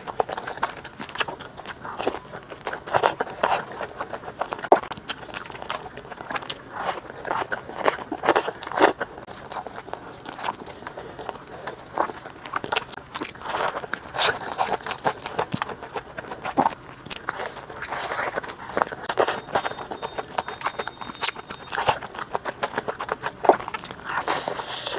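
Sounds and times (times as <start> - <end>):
crunchy bites and chewing: 0.0 - 24.9.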